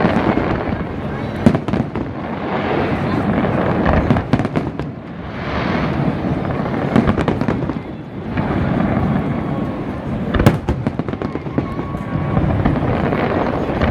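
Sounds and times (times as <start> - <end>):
fireworks booms and cracks: 0.0 - 13.9.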